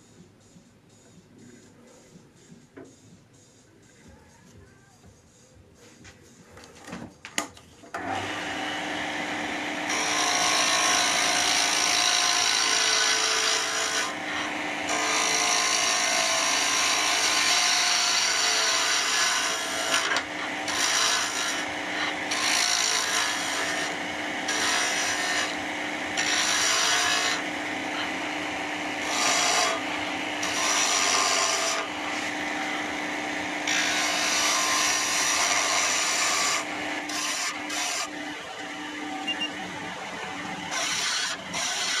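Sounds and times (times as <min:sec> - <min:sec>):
chisel cutting spinning wood: 0:08.0 - 0:42.0
wood lathe running: 0:08.0 - 0:42.0.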